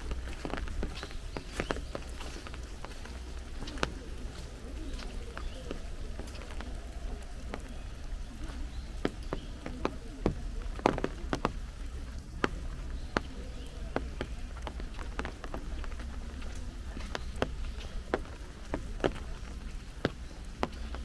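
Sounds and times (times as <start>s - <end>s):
large raindrops tapping: 0.0s - 21.0s.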